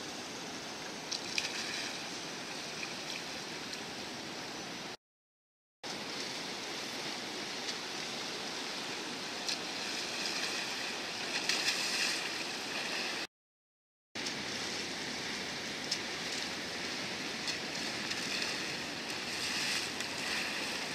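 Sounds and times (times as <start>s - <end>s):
steady outdoor hiss: 0.0s - 5.0s, 5.9s - 13.3s, 14.2s - 20.9s
water splashing and sloshing: 0.7s - 4.4s, 5.9s - 13.3s, 14.2s - 20.9s.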